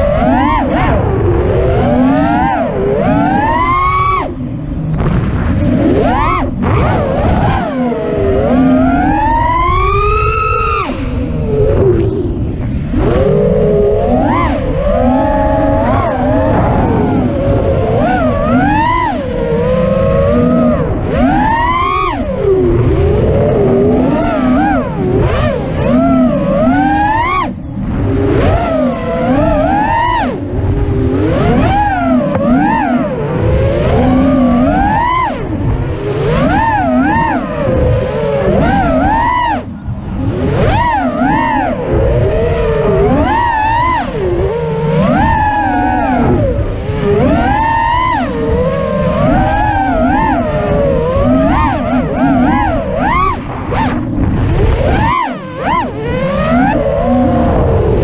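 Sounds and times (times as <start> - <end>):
drone motors whining: 0.0 - 58.0
wind rush on microphone: 0.0 - 58.0.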